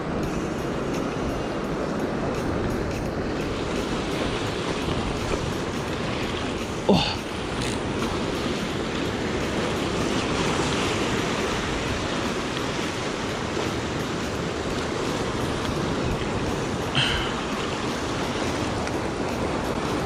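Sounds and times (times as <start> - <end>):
surf washing over rocks: 0.0 - 20.0.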